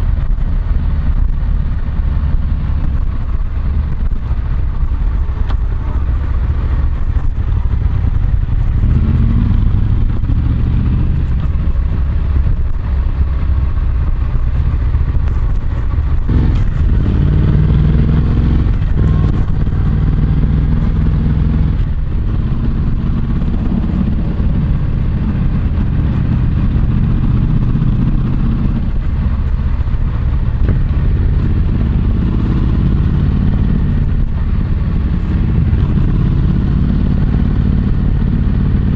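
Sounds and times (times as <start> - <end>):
motorcycle engine exhaust note: 0.0 - 38.9.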